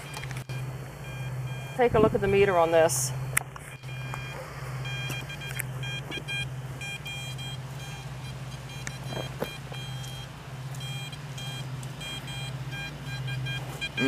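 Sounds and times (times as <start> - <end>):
metal detector beeping: 0.0 - 3.0, 3.6 - 14.0
steady low hum: 0.0 - 14.0.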